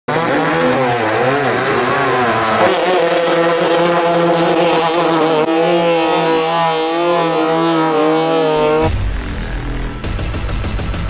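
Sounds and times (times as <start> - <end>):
boat engines at high revs: 0.0 - 9.0.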